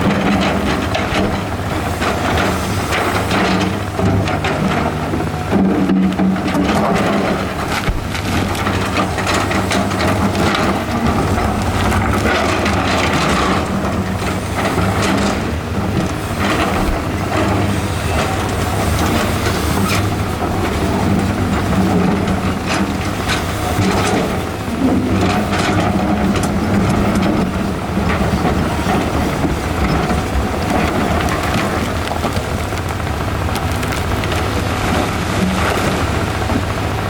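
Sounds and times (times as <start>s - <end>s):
excavator diesel engine running: 0.0s - 37.0s
stone cracking and scraping: 6.4s - 36.7s.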